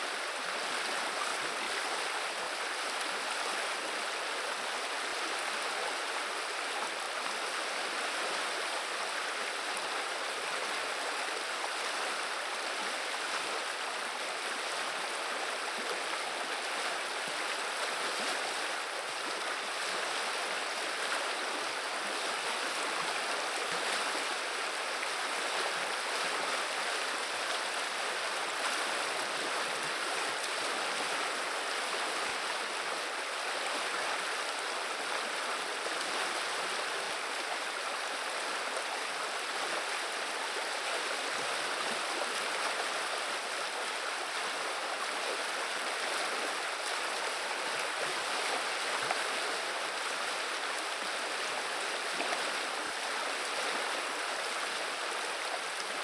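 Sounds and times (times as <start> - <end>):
river water flowing and babbling: 0.0 - 56.0.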